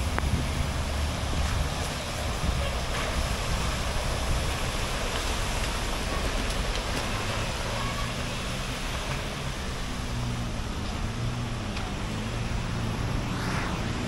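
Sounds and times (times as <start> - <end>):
rain hissing on wet ground: 0.0 - 14.0.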